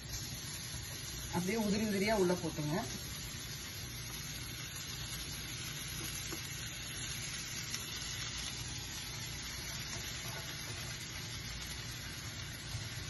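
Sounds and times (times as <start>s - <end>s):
wok sizzling: 0.0s - 13.0s.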